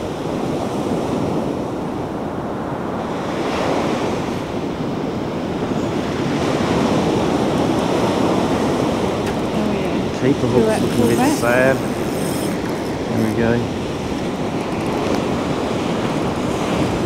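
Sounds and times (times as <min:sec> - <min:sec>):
ocean surf breaking on sand: 0:00.0 - 0:17.0.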